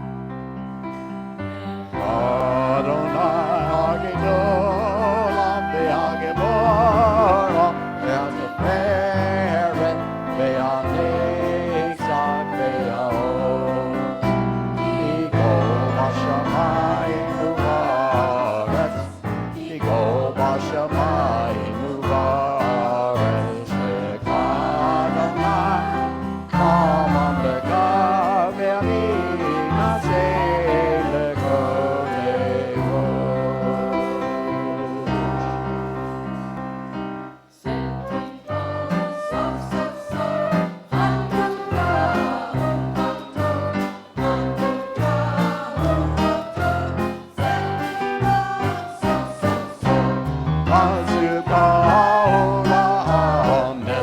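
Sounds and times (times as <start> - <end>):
person singing religious song: 2.0 - 36.2, 38.9 - 54.0.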